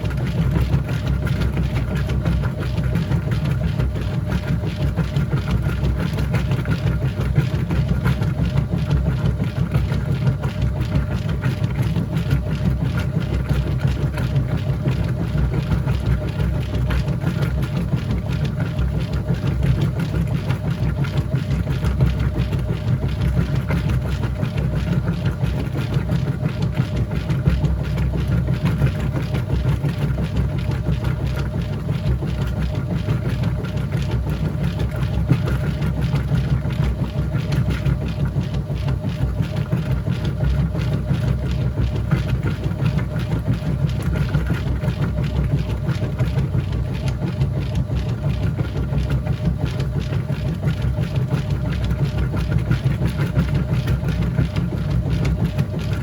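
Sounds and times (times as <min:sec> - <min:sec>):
washing machine low rumble: 0:00.0 - 0:56.0
washing machine motor hum: 0:00.0 - 0:56.0.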